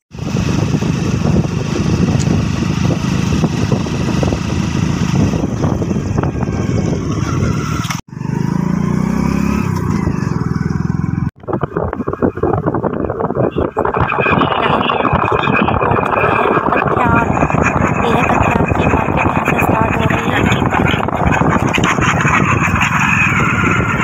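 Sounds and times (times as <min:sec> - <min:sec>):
wind on microphone: 0:00.1 - 0:08.0, 0:08.6 - 0:24.0
vehicle engine rumble: 0:00.1 - 0:24.0.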